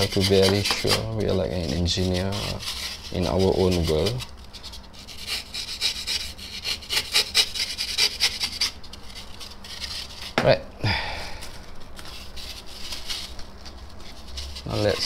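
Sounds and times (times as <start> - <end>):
foam block rubbing: 0.0 - 10.4, 11.9 - 15.0.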